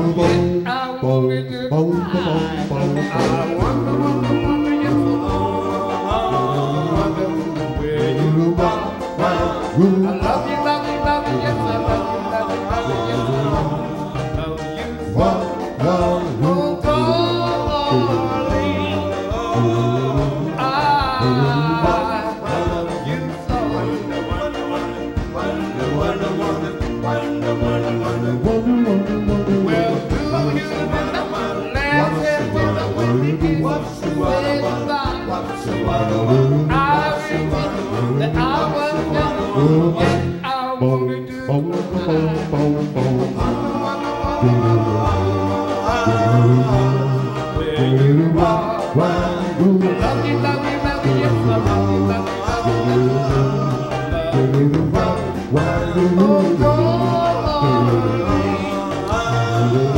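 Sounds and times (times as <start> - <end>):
doo-wop vocal group and band: 0.0 - 59.9
lead singer with vibrato: 0.0 - 59.9.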